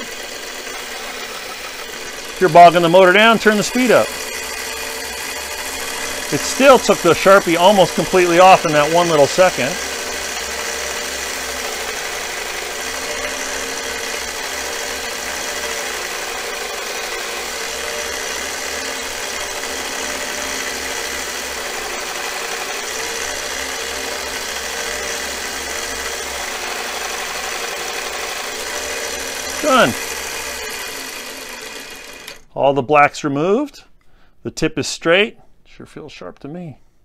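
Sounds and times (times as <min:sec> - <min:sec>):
belt grinder sharpening metal: 0:00.0 - 0:32.4.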